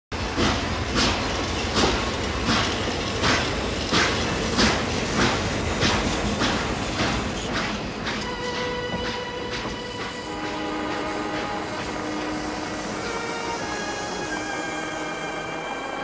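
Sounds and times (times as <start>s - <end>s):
train rumble: 0.1s - 16.0s
wheels clacking over rail joints: 0.2s - 14.7s.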